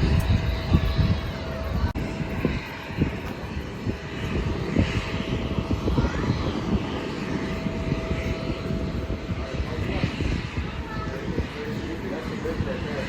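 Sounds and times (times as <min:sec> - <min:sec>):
aircraft engine whining: 0:00.0 - 0:13.0
wind buffeting microphone: 0:00.0 - 0:13.0.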